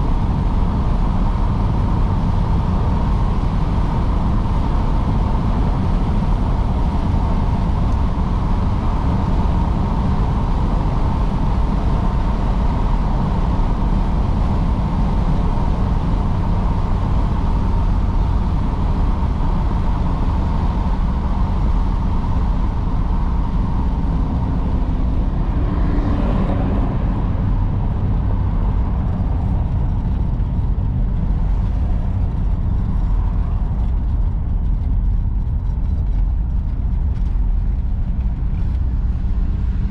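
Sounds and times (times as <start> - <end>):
car engine drone: 0.0 - 39.9
road and wind noise: 0.0 - 39.9.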